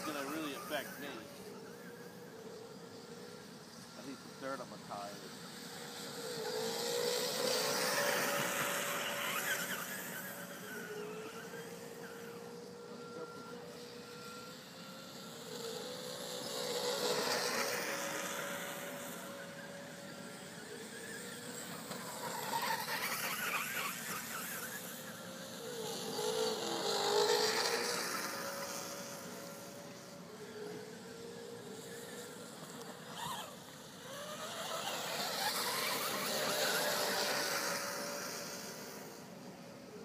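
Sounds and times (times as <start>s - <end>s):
radio-controlled trucks whining: 0.0s - 40.0s.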